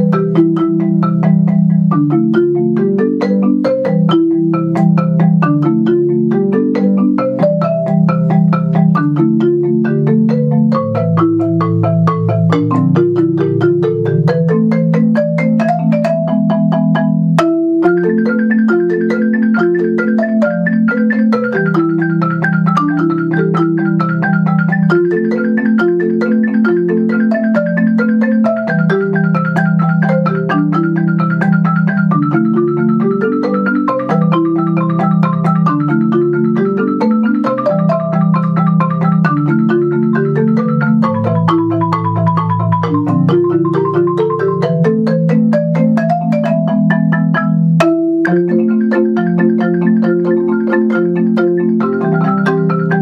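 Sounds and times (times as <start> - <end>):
mallet percussion music: 0.0 - 53.0.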